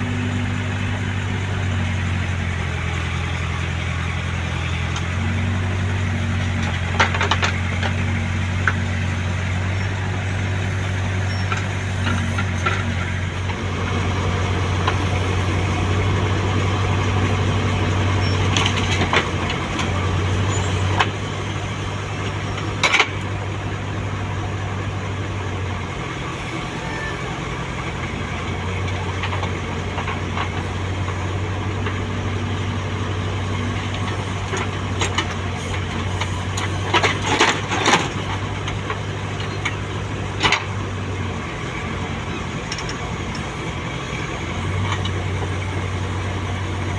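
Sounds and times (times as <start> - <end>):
diesel engine running at low revs: 0.0 - 46.9.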